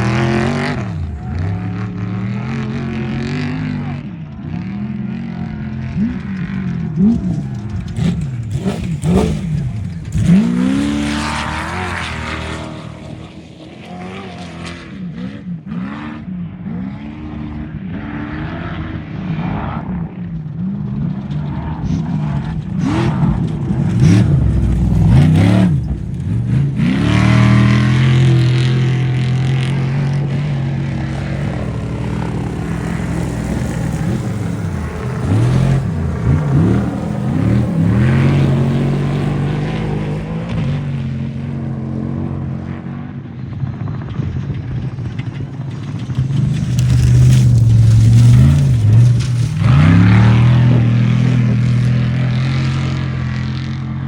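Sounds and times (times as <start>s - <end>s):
race vehicle engines revving: 0.0s - 54.0s.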